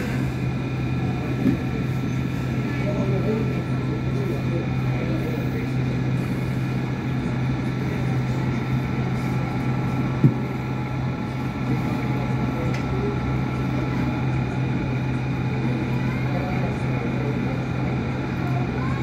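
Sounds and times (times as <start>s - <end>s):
tram motor hum: 0.0s - 19.0s
wheel and track rumble: 0.0s - 19.0s.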